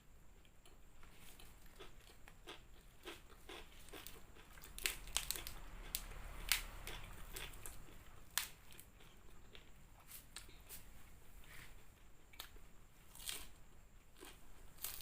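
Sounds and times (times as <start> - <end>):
crunching fried chicken: 0.4 - 10.6, 12.2 - 15.0.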